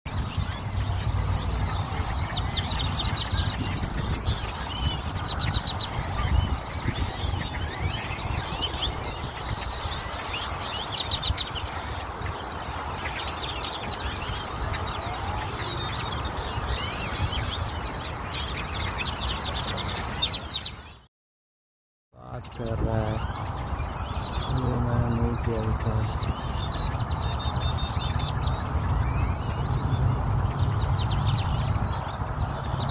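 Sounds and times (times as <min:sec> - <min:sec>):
flock of birds chirping: 0:00.1 - 0:21.1, 0:22.2 - 0:32.9.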